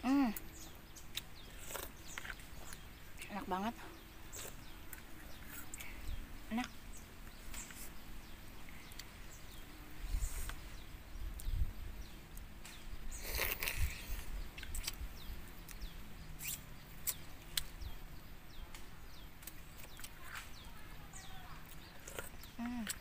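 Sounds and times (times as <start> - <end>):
rustle: 0.0 - 23.0
small birds chirping: 0.0 - 23.0.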